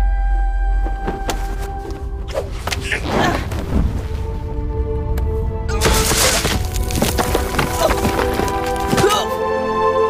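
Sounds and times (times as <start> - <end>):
orchestral film score: 0.0 - 10.0.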